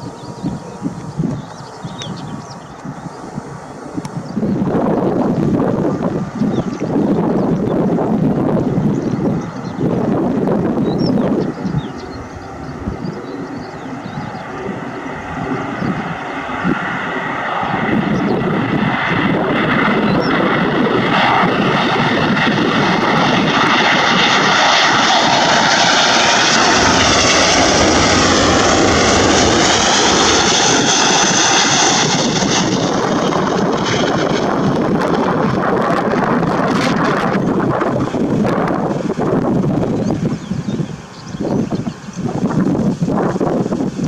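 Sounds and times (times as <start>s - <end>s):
jet airliner passing: 0.0s - 44.0s.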